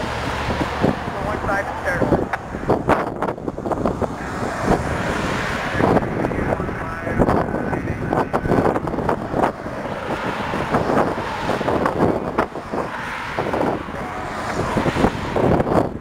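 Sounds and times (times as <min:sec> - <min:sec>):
pickup truck driving past: 0:00.0 - 0:07.6, 0:08.4 - 0:16.0
road traffic: 0:00.0 - 0:16.0
wind on microphone: 0:00.0 - 0:16.0.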